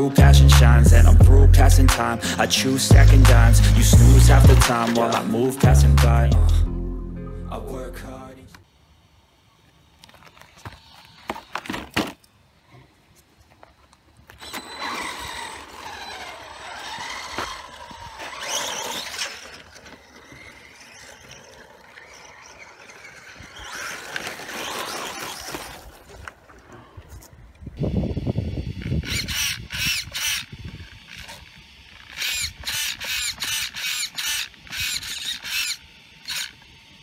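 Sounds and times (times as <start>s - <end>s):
rc truck electric motor whining: 0.0s - 6.6s, 8.8s - 12.1s, 14.3s - 26.5s, 27.6s - 37.0s.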